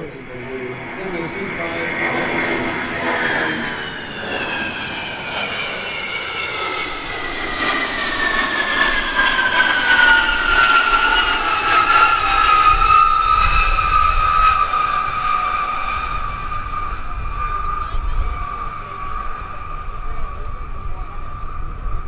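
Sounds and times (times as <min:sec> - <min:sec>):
aircraft rumble: 0:00.0 - 0:22.0
jet aircraft engines whine: 0:00.0 - 0:22.0.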